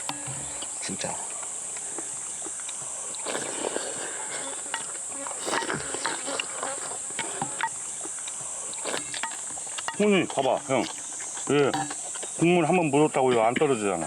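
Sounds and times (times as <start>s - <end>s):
eating clicks and chewing: 0.0s - 14.0s
insects chorus: 0.0s - 14.0s.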